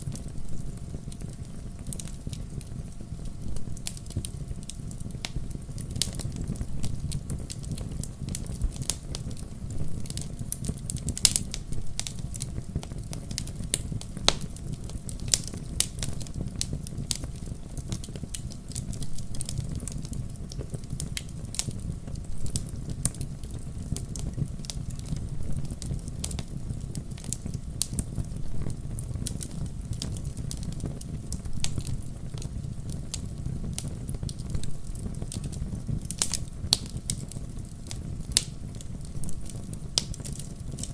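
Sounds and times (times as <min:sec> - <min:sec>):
fire pops and snaps: 0:00.0 - 0:40.9
flames rumbling: 0:00.0 - 0:40.9
wood fire crackling: 0:00.0 - 0:40.9.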